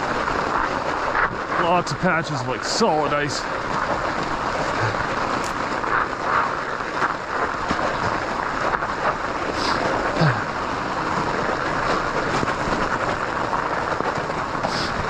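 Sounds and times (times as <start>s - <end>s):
bike rattles: 0.0s - 15.0s
tires grinding over ice and snow: 0.0s - 15.0s.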